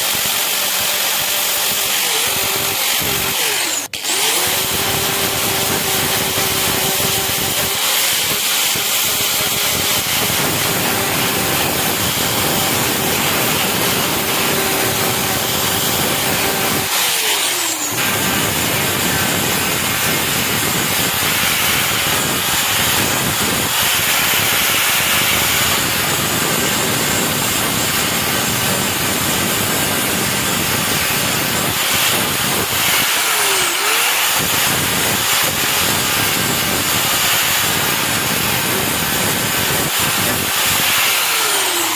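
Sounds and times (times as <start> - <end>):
power tool motor grinding: 0.0 - 41.9.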